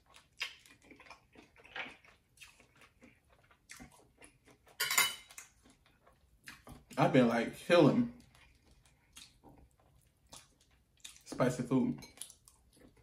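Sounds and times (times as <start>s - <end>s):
person chewing wetly: 0.0s - 7.1s, 7.9s - 13.0s.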